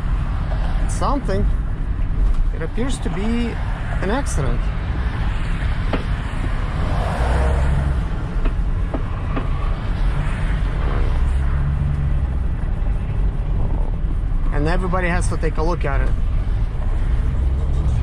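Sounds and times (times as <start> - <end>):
engine and road drone: 0.0 - 18.0.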